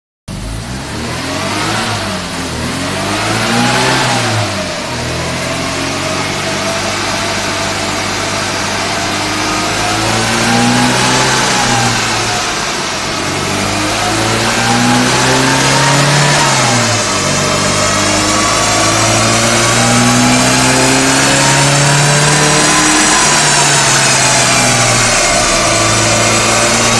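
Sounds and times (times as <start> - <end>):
car engine revving: 0.3 - 26.9.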